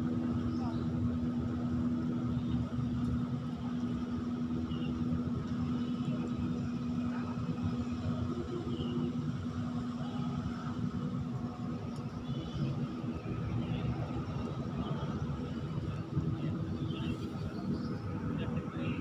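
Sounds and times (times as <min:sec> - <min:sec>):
engine droning evenly: 0:00.0 - 0:19.0.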